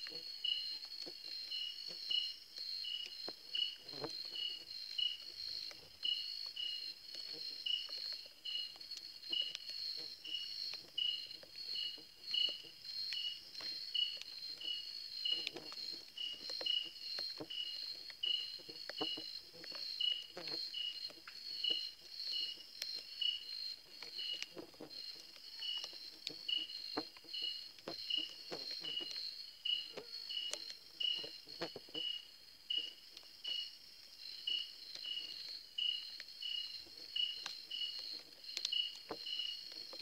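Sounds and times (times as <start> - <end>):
insect chirping: 0.0 - 40.0.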